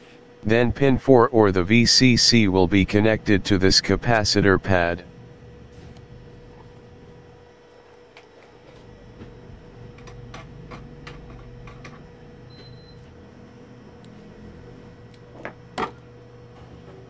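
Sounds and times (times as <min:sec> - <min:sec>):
faint hum: 0:00.4 - 0:15.2.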